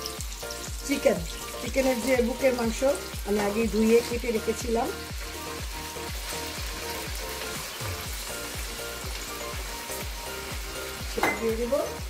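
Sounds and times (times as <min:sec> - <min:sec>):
background music with steady beat: 0:00.0 - 0:12.0
food sizzling in hot oil: 0:00.0 - 0:12.0.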